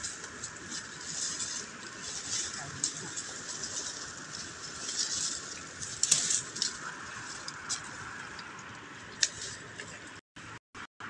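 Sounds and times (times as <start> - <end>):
twigs and leaves rustling and snapping: 0.0 - 10.0.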